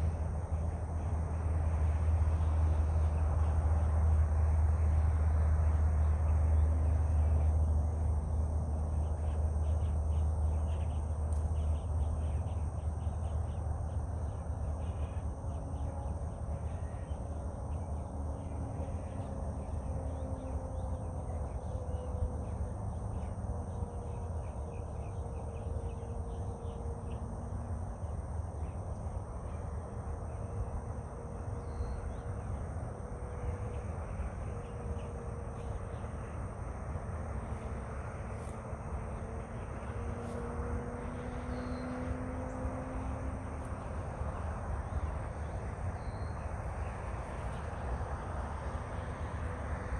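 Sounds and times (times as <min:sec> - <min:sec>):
faint hum drifting in pitch: 0:00.0 - 0:49.9
high insect drone: 0:00.0 - 0:49.9.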